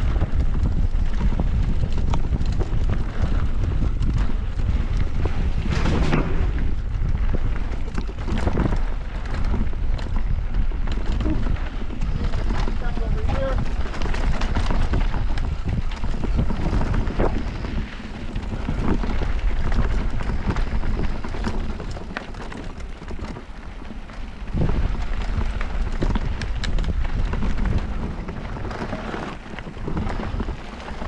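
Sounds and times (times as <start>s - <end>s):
bike knocks and rattles: 0.0s - 31.0s
bike tyre noise on dirt: 0.0s - 31.0s
wind over microphone: 0.0s - 31.0s.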